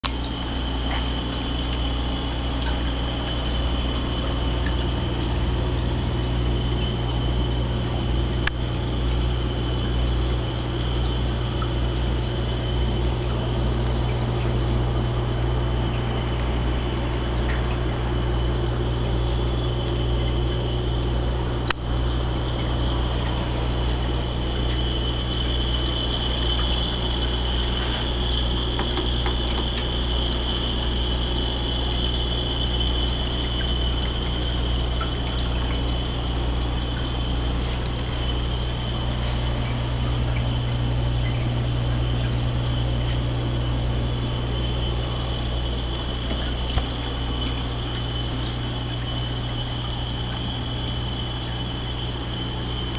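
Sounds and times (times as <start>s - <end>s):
low pump hum: 0.0s - 52.9s
water trickling: 0.0s - 52.9s
faint high whine: 0.1s - 52.9s.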